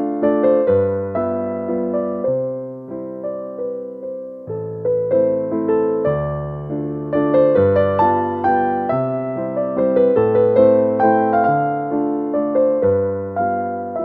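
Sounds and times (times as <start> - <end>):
gentle keyboard melody: 0.0 - 14.0.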